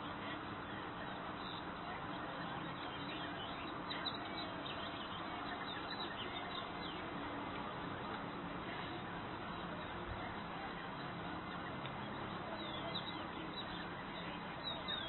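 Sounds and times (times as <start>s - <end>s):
birds calling faintly: 0.0s - 15.0s
steady outdoor hiss: 0.0s - 15.0s.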